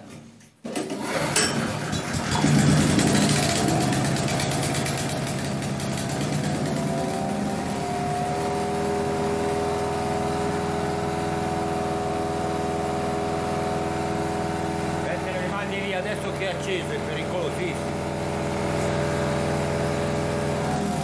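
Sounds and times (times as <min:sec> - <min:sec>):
small petrol engine running: 0:00.9 - 0:21.0.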